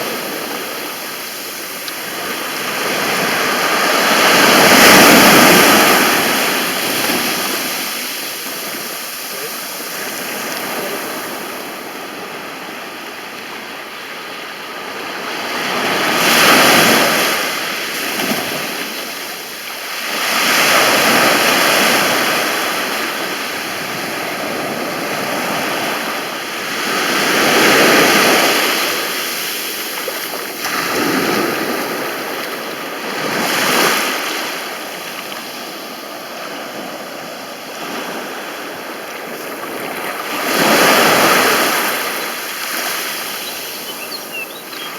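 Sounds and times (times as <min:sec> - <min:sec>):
sea waves breaking on beach: 0:00.0 - 0:44.9.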